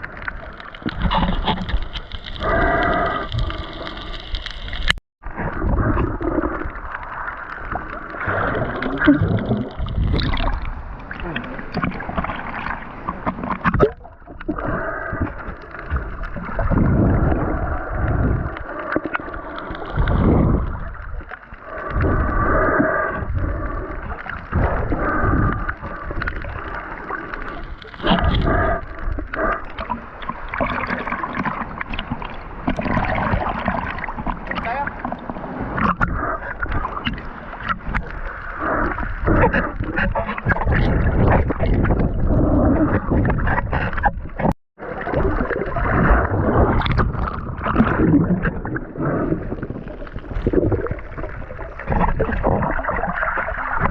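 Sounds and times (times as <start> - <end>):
water sloshing and gurgling: 0.0 - 53.9.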